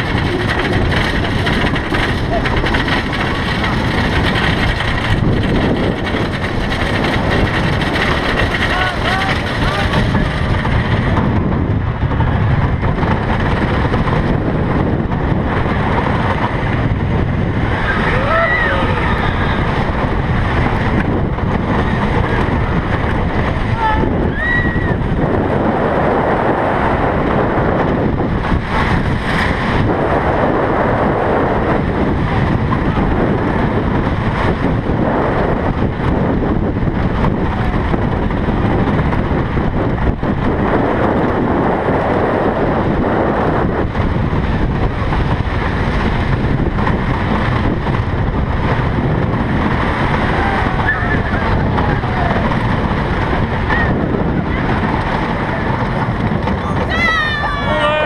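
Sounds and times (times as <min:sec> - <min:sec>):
roller coaster wheels rattling: 0:00.0 - 0:58.0
wind buffeting microphone: 0:00.0 - 0:58.0.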